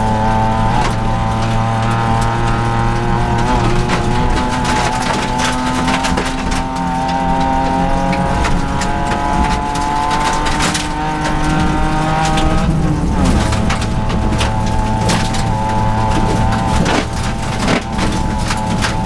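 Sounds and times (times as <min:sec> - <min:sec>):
car engine running hard: 0:00.0 - 0:19.0
stones clicking against car: 0:00.0 - 0:19.0
tyres rumbling on gravel: 0:00.0 - 0:19.0.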